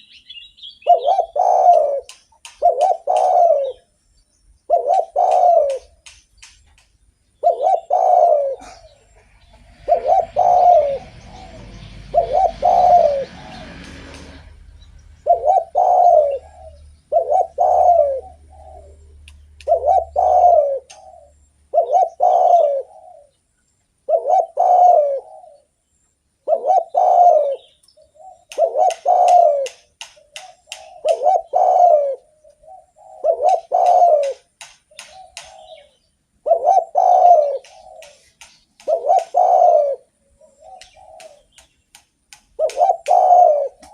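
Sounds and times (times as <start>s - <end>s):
dove cooing: 0.8s - 3.9s, 4.6s - 6.2s, 7.4s - 14.6s, 15.2s - 41.7s, 42.3s - 43.9s.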